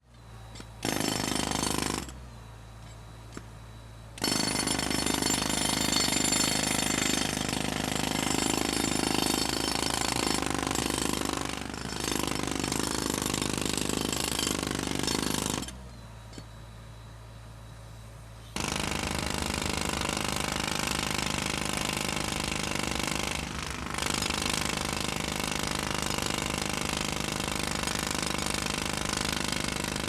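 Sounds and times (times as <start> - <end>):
jackhammer hammering: 0.5 - 2.2, 4.2 - 15.8, 18.6 - 30.0.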